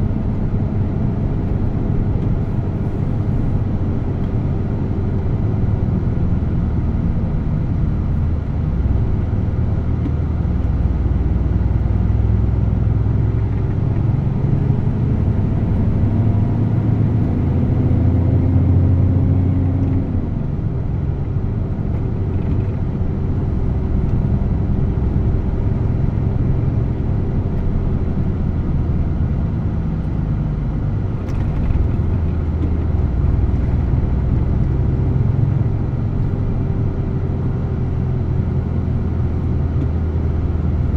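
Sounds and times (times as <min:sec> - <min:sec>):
diesel truck engine droning: 0:00.0 - 0:40.9.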